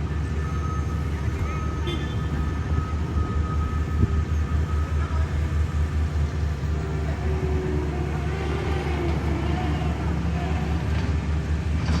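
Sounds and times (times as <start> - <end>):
diesel paving machine rumbling: 0.0 - 12.0.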